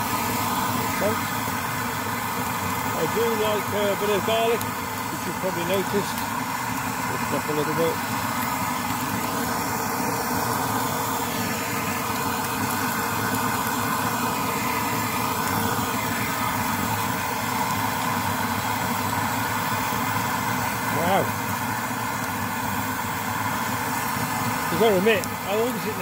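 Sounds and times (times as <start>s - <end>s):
pressure stove burner rushing: 0.0s - 26.0s
steak sizzling in a pan: 0.0s - 26.0s.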